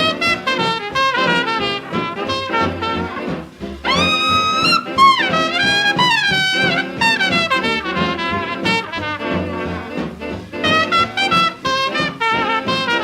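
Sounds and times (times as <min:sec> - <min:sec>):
swing big band playing: 0:00.0 - 0:13.0
trumpet sliding between notes: 0:00.0 - 0:13.0.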